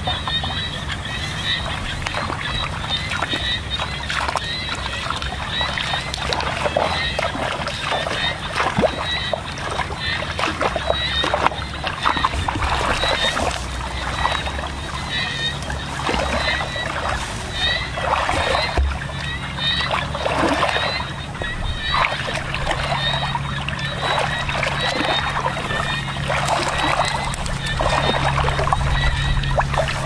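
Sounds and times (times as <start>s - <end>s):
muddy water sloshing and splashing: 0.0s - 30.0s.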